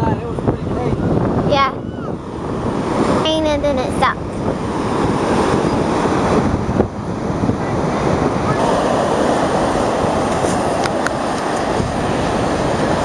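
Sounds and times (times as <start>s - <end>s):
wind rumbling on microphone: 0.0s - 13.0s
ocean surf breaking: 0.2s - 13.0s.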